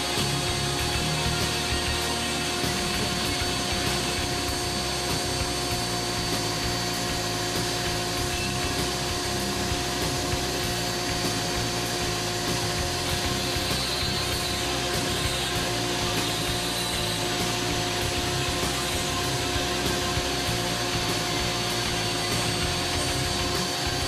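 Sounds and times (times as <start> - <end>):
dust collector suction rush: 0.0 - 24.0
rotary tool grinding wood: 0.0 - 24.0.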